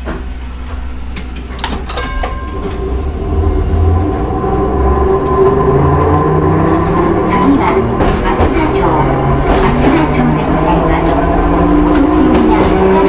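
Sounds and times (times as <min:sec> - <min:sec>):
low rumble: 0:00.0 - 0:13.0
tram motor hum: 0:00.0 - 0:13.0.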